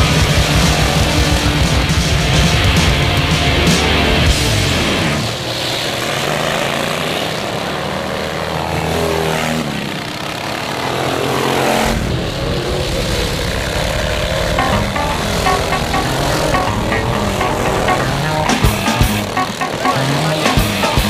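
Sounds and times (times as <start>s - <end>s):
lawnmower engines revving past: 0.0s - 21.0s.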